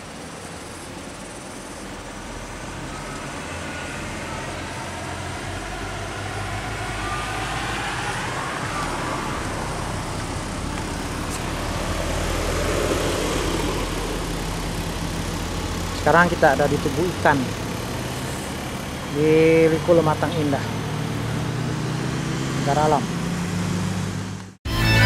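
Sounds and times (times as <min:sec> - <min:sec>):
low engine hum: 0:00.0 - 0:24.6
vehicle engine running: 0:00.0 - 0:24.6.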